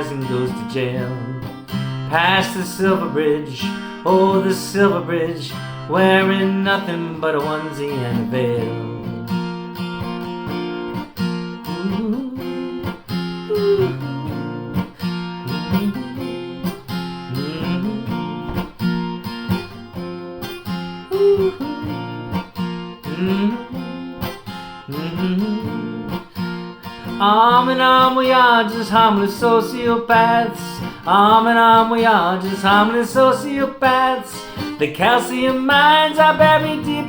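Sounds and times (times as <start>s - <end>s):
acoustic guitar plucked and strummed: 0.0s - 37.0s.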